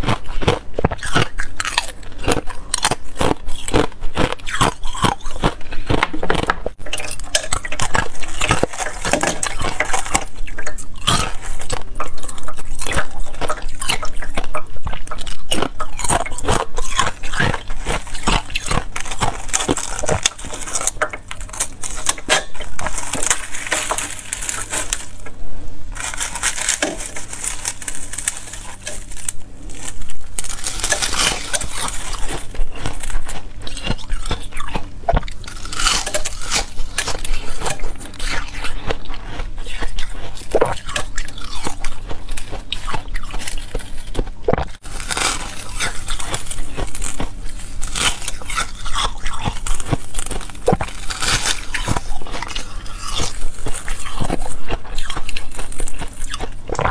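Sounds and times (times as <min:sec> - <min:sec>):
ice crystals cracking and clinking: 0:00.0 - 0:25.3, 0:26.0 - 0:44.1, 0:44.7 - 0:56.9.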